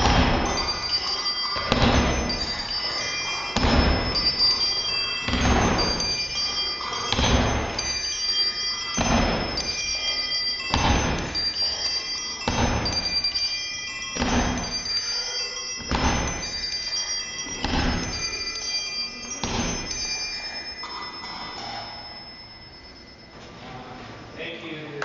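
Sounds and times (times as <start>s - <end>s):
bicycle bells ringing: 0.0s - 25.0s.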